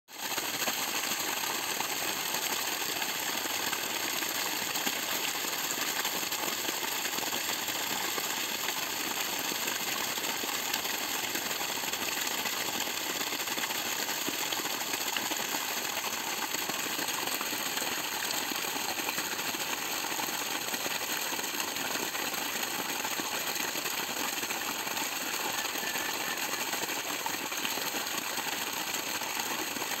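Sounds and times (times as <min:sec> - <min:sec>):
water gushing from pipe: 0:00.1 - 0:30.0.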